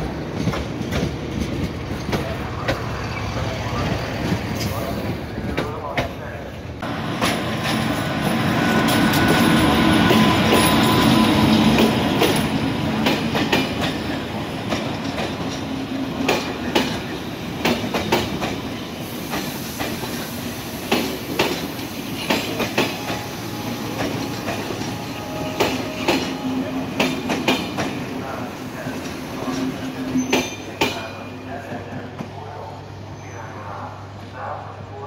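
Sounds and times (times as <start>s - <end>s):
electric locomotive humming: 0.0s - 35.0s.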